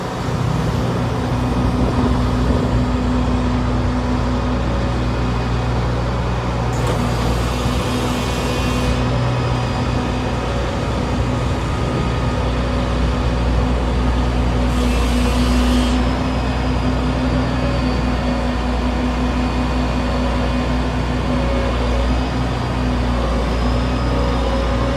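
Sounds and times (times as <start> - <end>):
combine harvester engine humming: 0.0 - 24.9.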